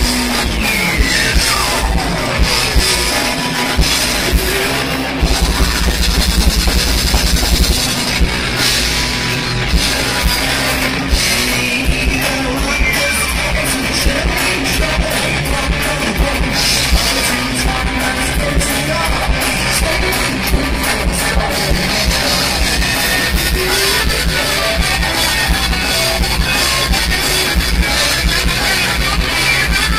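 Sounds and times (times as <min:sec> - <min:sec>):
drum kit: 0:00.0 - 0:29.9
electric guitars: 0:00.0 - 0:29.9
rock band playing loud: 0:00.0 - 0:29.9.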